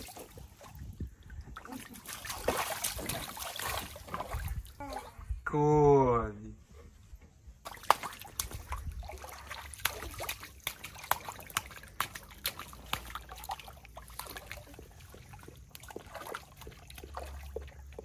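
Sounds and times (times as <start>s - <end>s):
water splashing in paddling pool: 0.0s - 5.3s, 7.6s - 18.0s.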